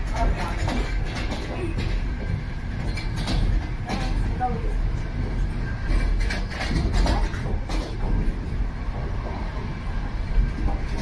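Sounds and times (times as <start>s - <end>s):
train clacks and rattles: 0.0s - 11.0s
train rumbling on track: 0.0s - 11.0s.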